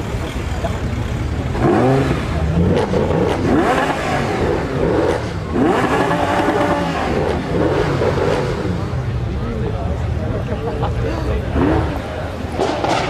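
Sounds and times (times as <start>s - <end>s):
car engines revving: 0.0s - 13.0s
traffic rumble: 0.0s - 13.0s.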